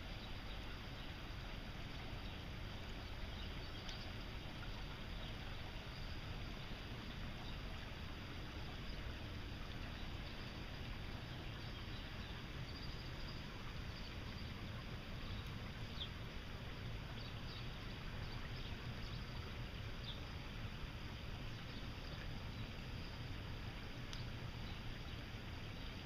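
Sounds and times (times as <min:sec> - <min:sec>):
water rushing stream: 0:00.0 - 0:26.0.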